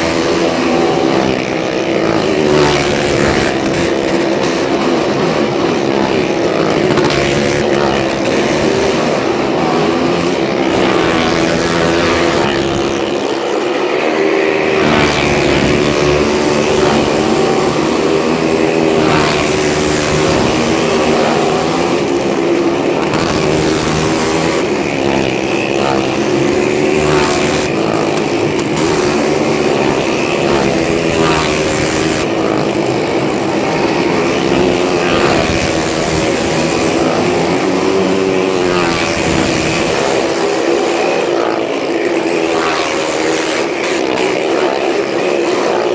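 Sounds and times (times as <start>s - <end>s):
motorcycle engines droning: 0.0s - 45.9s.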